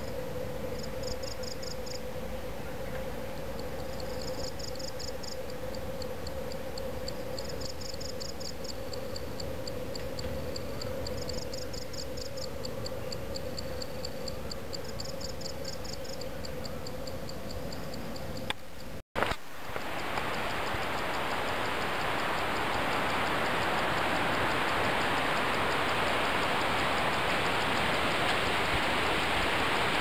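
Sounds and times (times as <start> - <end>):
crickets chirping: 0.0 - 2.8, 3.4 - 30.0.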